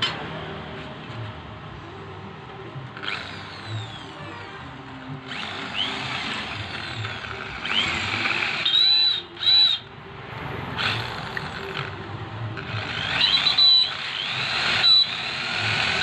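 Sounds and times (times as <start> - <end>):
hole saw grinding through steel: 2.9 - 16.0.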